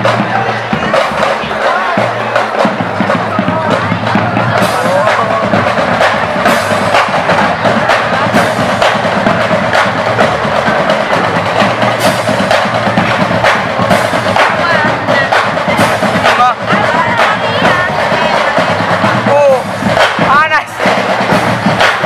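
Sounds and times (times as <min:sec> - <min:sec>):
drums struck in busy rhythm: 0:00.0 - 0:22.0.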